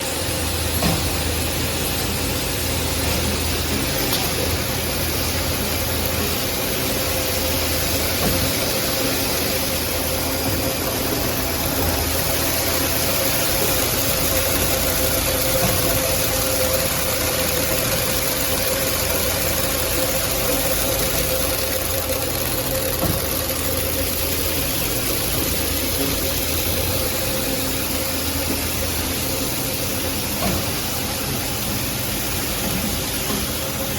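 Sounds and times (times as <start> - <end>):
production line machinery: 0.0 - 33.9.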